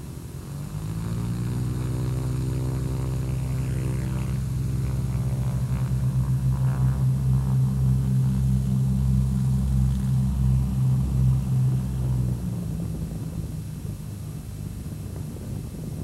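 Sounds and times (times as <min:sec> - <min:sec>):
propeller aircraft engines droning: 0:00.0 - 0:16.0.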